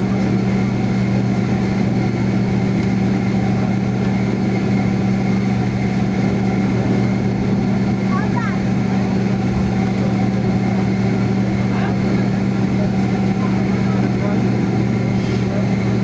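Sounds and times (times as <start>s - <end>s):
jet engine cabin drone: 0.0s - 16.0s.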